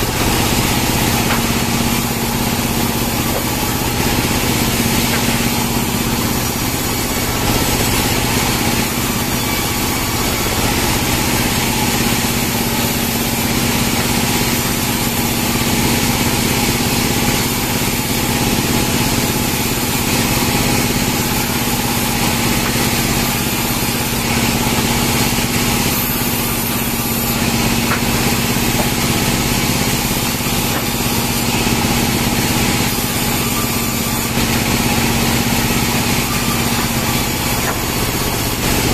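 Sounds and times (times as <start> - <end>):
band saw cutting logs: 0.0 - 38.9.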